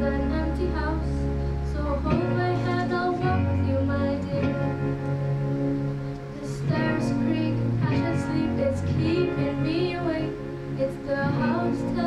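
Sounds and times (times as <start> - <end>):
girl singing into a microphone: 0.0 - 5.2, 6.2 - 12.0
instrumental accompaniment: 0.0 - 12.0.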